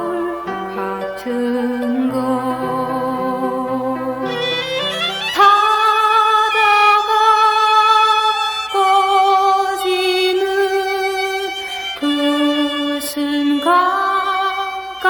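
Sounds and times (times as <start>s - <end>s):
woman singing folk song: 0.0s - 4.4s, 5.3s - 15.0s.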